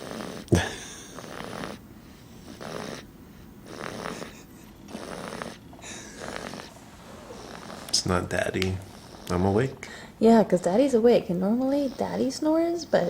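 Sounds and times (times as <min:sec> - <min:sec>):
loud rasping snoring: 0:00.0 - 0:01.8, 0:02.4 - 0:09.8, 0:11.4 - 0:13.0.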